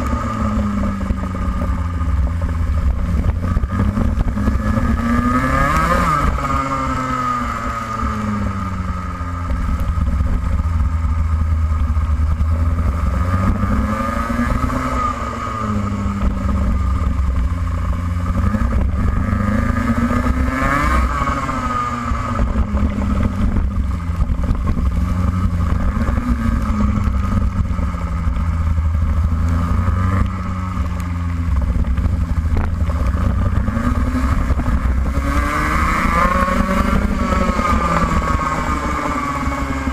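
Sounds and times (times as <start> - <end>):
racing kart engine revving: 0.0 - 39.9.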